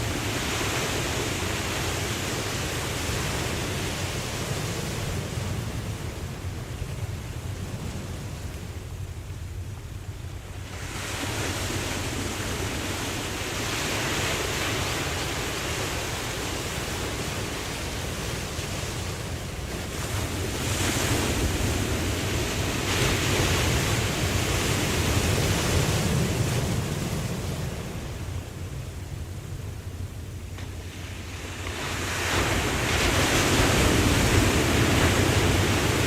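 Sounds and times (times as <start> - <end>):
low surf rumble: 0.0 - 36.0
waves washing in: 0.0 - 36.0.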